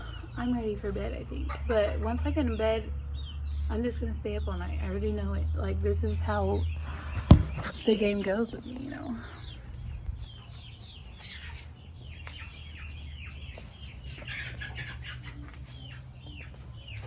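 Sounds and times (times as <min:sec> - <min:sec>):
chickens clucking and calling: 0:00.0 - 0:17.0.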